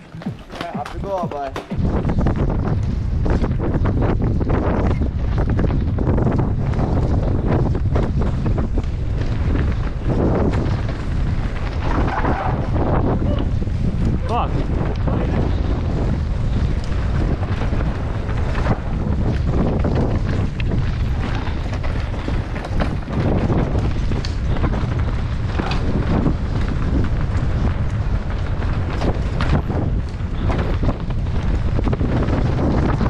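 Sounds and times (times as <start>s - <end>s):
bike rattles and knocks: 0.0s - 33.0s
mountain bike rumble on trail: 0.0s - 33.0s
wind buffeting microphone: 0.0s - 33.0s.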